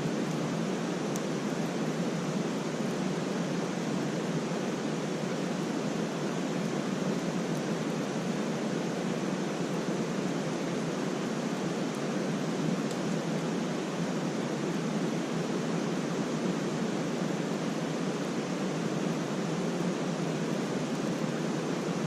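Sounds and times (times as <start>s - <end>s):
campfire hissing: 0.0s - 22.0s
fire crackles: 0.0s - 22.0s.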